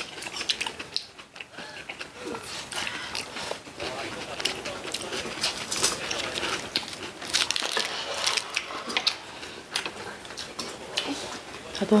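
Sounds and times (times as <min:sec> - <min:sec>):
food being chewed: 0:00.0 - 0:11.9.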